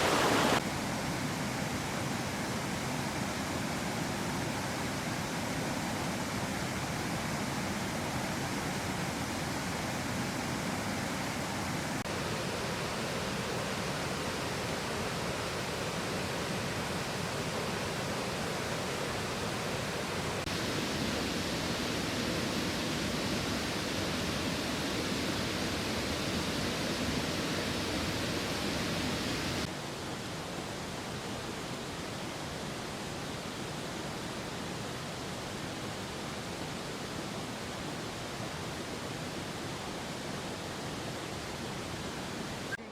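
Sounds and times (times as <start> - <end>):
rushing water: 0.0 - 42.9.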